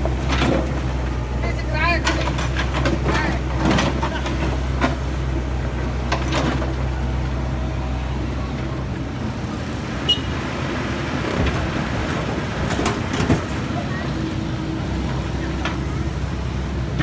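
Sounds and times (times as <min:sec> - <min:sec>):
large vehicle engine droning: 0:00.0 - 0:17.0
road traffic noise: 0:00.0 - 0:17.0.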